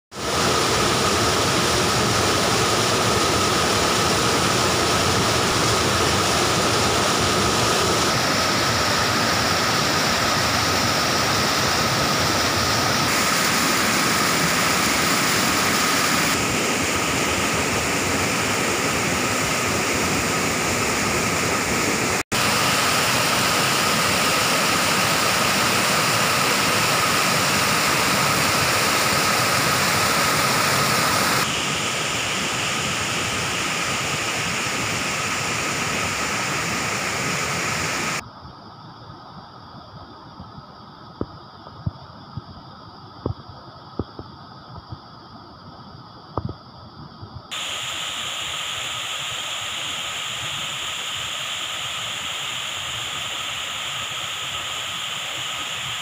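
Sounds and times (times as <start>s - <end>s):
waterfall rushing over rocks: 0.2s - 38.2s, 47.5s - 56.0s.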